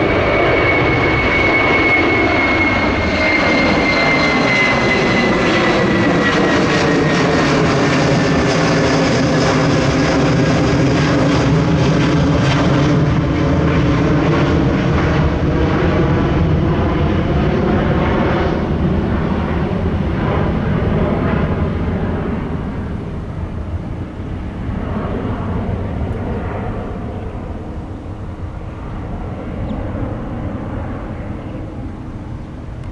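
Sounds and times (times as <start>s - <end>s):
jet airliner passing by: 0.0s - 32.9s.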